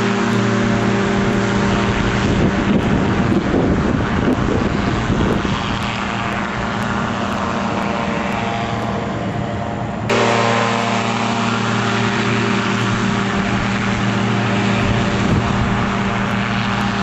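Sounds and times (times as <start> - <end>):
gyrocopter engine and propeller: 0.0 - 17.0
rushing noise: 0.0 - 17.0.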